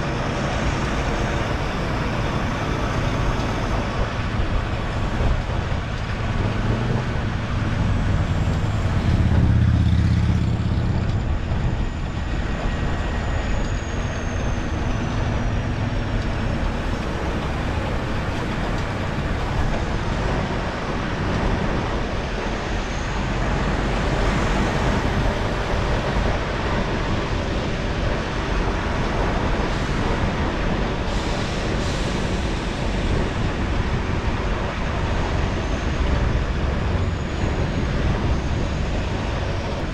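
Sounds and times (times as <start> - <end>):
vehicle road noise: 0.0 - 39.9.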